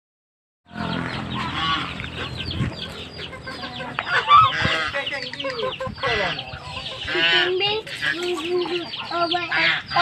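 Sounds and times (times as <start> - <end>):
chickens clucking and peeping: 0.7 - 10.0.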